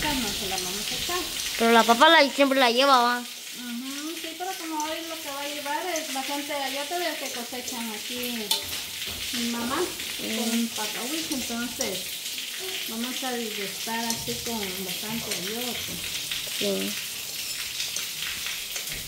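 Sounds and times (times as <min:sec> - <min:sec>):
vegetables sizzling in pan: 0:03.4 - 0:18.8.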